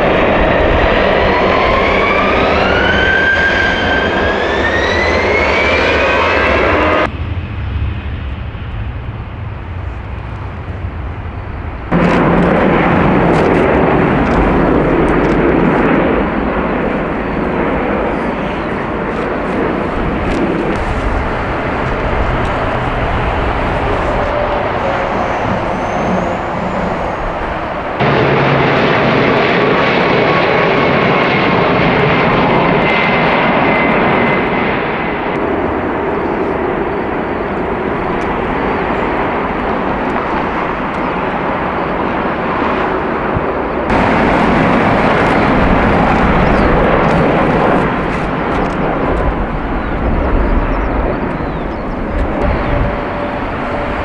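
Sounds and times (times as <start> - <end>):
jet engines rushing: 0.0 - 54.0.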